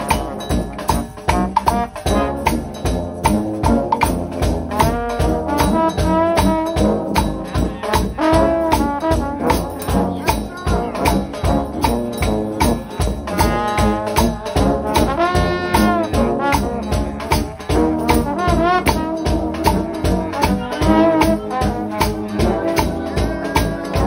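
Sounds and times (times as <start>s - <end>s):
tambourine beat: 0.0s - 24.0s
trombones sliding between notes: 0.0s - 24.0s.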